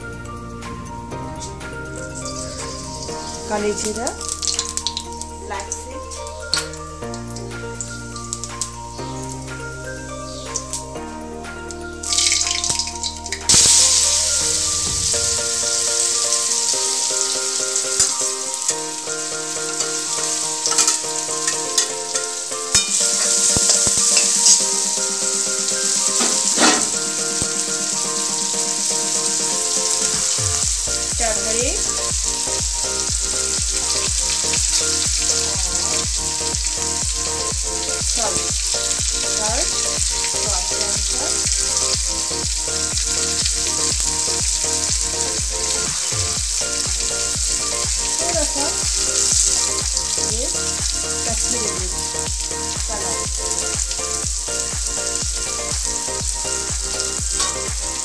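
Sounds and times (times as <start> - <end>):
vegetables sizzling in hot oil: 2.2 - 7.0, 12.0 - 58.0.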